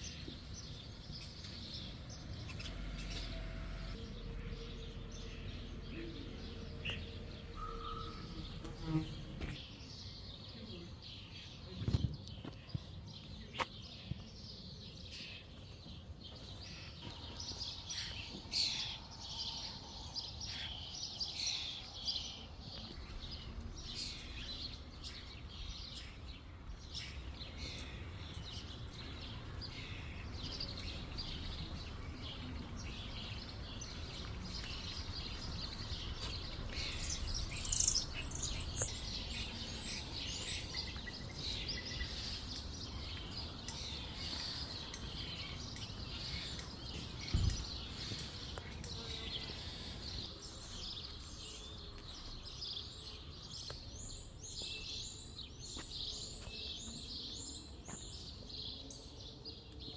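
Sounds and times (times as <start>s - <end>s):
low outdoor background noise: 0.0s - 59.9s
songbirds chirping: 0.0s - 59.9s.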